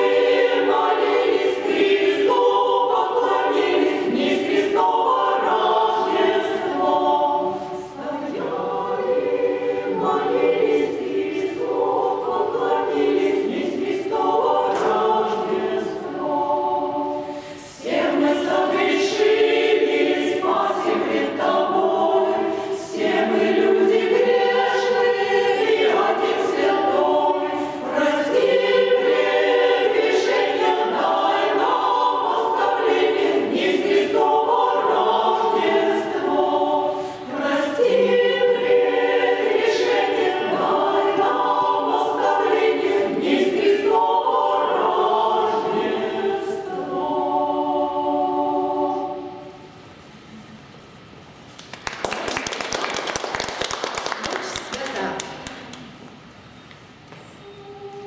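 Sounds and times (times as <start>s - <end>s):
women's choir singing a cappella: 0.0s - 49.9s, 57.4s - 58.0s.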